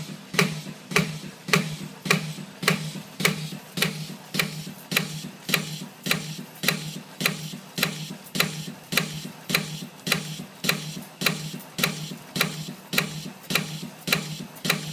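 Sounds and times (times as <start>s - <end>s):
steady low hum: 0.0s - 14.9s
sharp metallic click: 0.4s - 14.9s.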